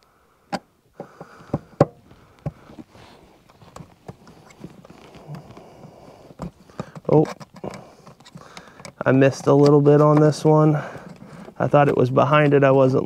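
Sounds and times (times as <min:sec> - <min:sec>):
soft rustling: 0:02.0 - 0:13.0.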